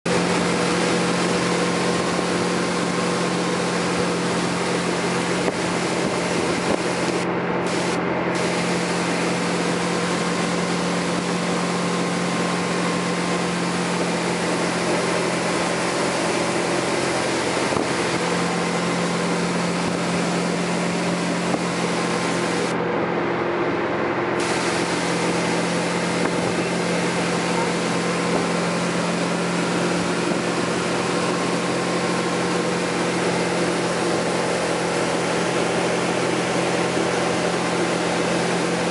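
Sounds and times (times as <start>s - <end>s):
boat engine running: 0.0s - 38.9s
churning wake: 0.0s - 38.9s
water spray hissing: 0.1s - 22.7s, 24.4s - 38.9s.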